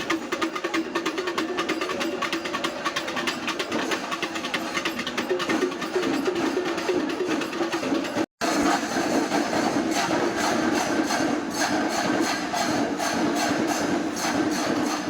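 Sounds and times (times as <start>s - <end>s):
fast percussion drumming: 0.0s - 15.0s.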